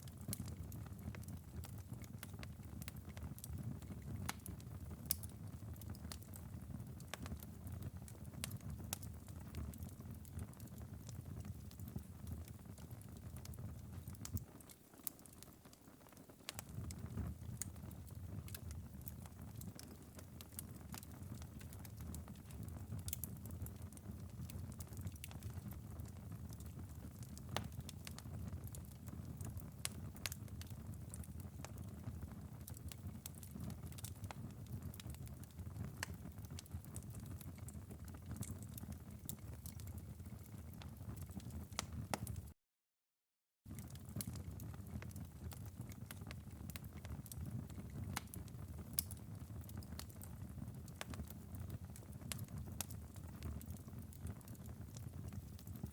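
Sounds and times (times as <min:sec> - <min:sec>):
fire crackling and popping: 0:00.0 - 0:42.6, 0:43.7 - 0:55.9
low rumble of burning coals: 0:00.0 - 0:42.6, 0:43.7 - 0:55.9.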